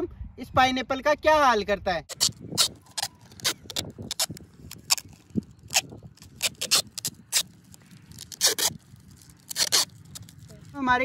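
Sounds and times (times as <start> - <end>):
hands rustling and scratching: 2.1 - 11.0.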